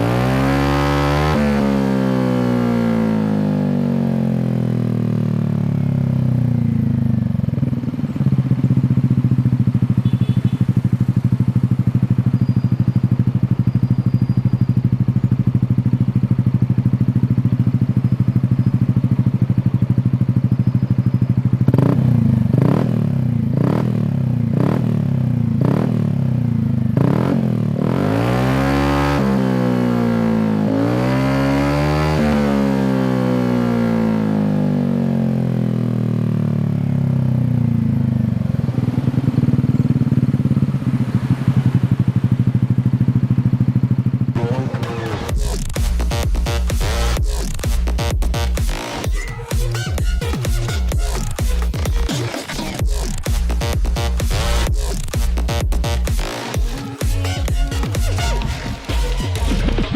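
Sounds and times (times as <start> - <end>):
scooter engine revving and idling: 0.0 - 59.9.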